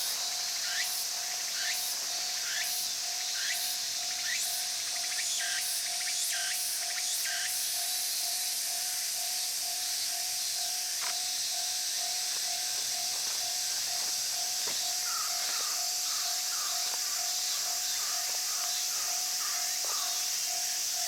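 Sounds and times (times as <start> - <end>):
insects singing high hiss: 0.0 - 21.0.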